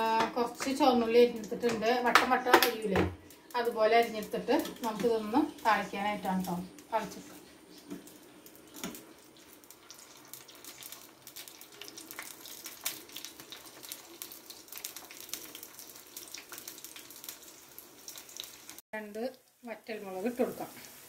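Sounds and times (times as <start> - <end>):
shallots sizzling in hot oil: 0.0 - 21.0
sharp crackles of frying: 0.0 - 21.0.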